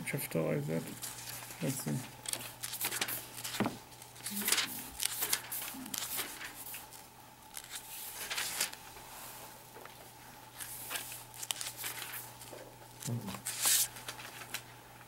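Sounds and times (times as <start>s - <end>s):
book pages turning: 0.8s - 9.1s, 9.8s - 14.7s.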